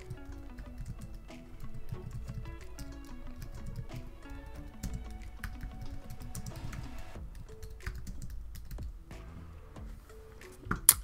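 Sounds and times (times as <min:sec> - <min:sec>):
computer keyboard typing: 0:00.0 - 0:08.9
soft background music: 0:00.0 - 0:11.0.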